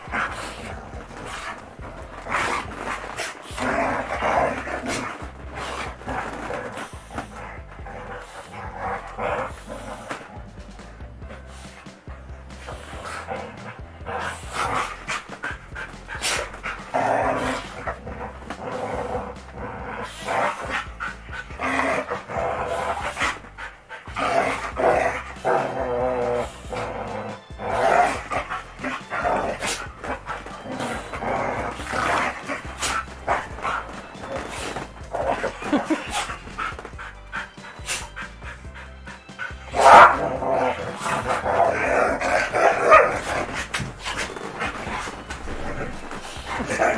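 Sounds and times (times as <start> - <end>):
background music: 0.0 - 46.9
dogs barking: 0.0 - 46.9
dogs panting: 0.0 - 46.9.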